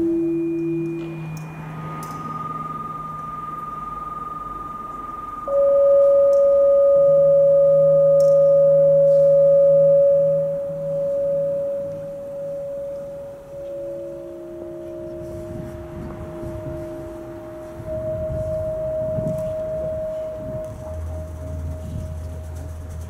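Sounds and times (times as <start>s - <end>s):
electronic held tones: 0.0s - 23.0s
pulsing low hum: 0.0s - 23.0s.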